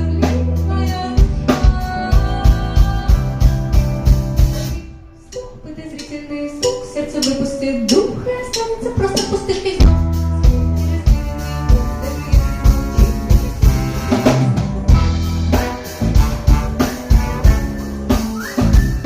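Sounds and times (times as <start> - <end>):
drum kit steady beat: 0.0 - 4.8, 5.4 - 19.0
guitar: 0.0 - 5.3, 8.9 - 19.0
sustained bass notes: 0.0 - 5.4, 7.3 - 19.0.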